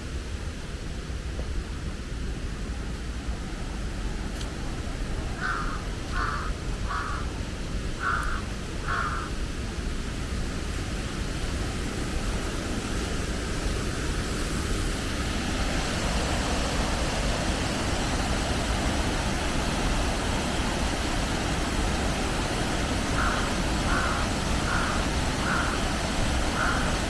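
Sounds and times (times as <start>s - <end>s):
waterfall rushing: 3.2s - 27.0s.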